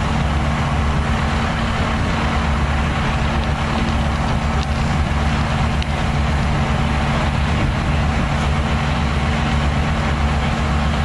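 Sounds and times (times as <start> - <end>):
large vehicle engine idling: 0.0 - 11.0.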